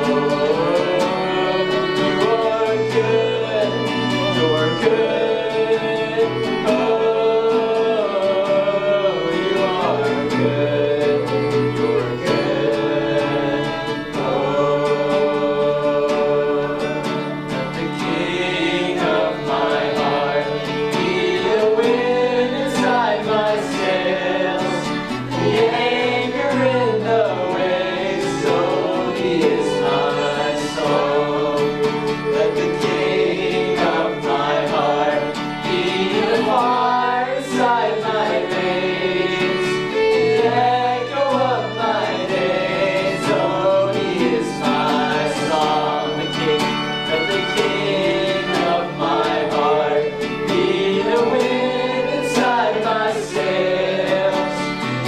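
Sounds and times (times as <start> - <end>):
group singing gospel song: 0.0 - 55.0
guitar and strings: 0.0 - 55.0.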